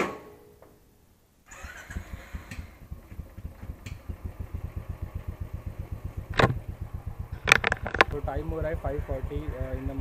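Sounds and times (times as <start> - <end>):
motorcycle engine starting and idling: 1.4 - 10.0.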